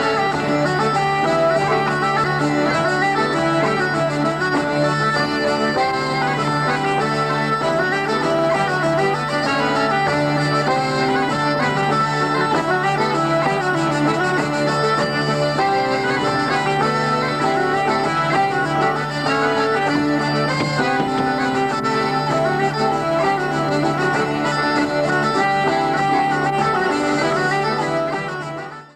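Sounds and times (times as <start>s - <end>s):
bagpipes: 0.0s - 28.9s
button accordion: 0.0s - 28.9s
hurdy-gurdy: 0.0s - 28.9s.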